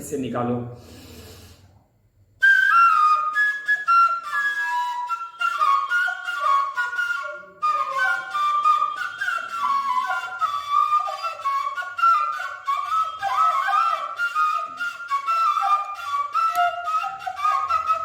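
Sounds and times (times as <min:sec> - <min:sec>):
bamboo flute melody: 0:02.4 - 0:18.0.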